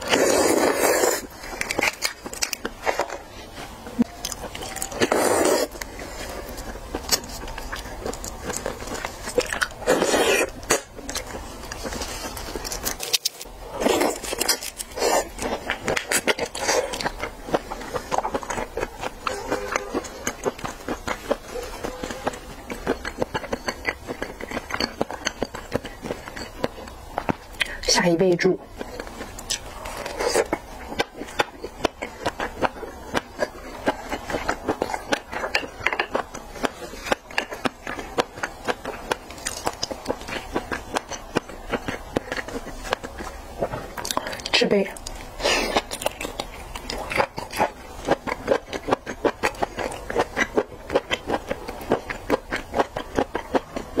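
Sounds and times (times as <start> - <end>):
wet chewing and mouth smacking: 0.0 - 27.9, 28.5 - 54.0.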